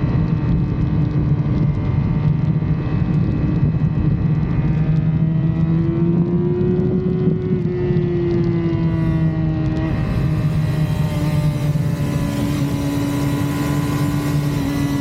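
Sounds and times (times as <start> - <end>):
motorcycle engine running: 0.0 - 15.0
steady rushing noise: 0.0 - 15.0.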